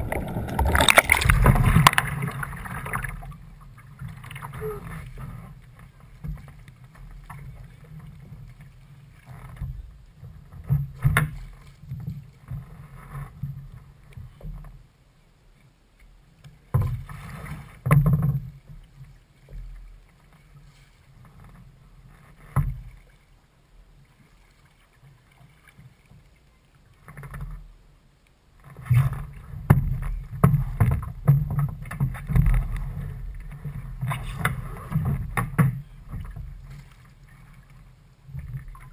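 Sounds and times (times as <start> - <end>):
paddle splashes: 0.0 - 14.6, 15.6 - 38.9
water sloshing against hull: 0.0 - 38.9.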